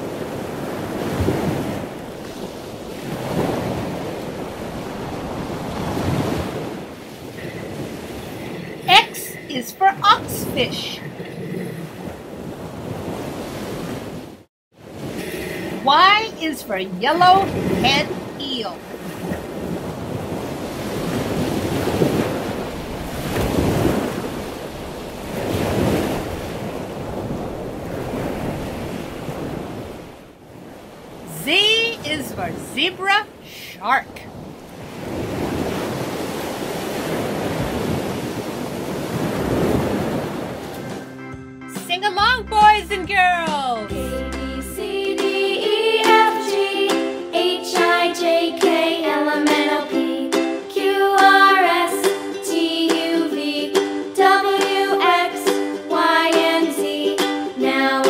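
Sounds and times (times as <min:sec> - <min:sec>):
ocean waves washing: 0:00.0 - 0:58.0.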